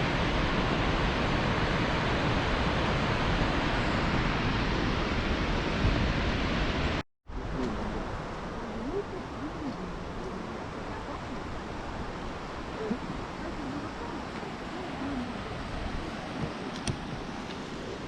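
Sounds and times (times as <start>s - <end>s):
rushing mountain river: 0.0s - 18.0s.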